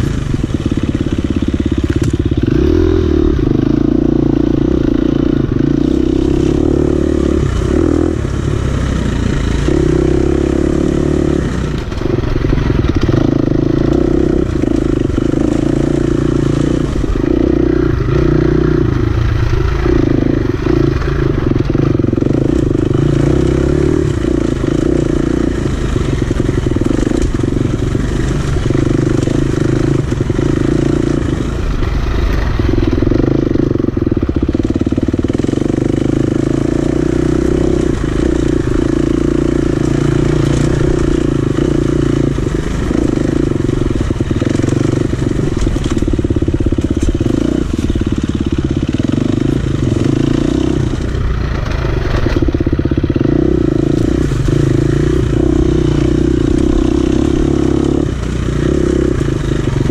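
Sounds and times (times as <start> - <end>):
dirt bike engine running hard: 0.0 - 59.9.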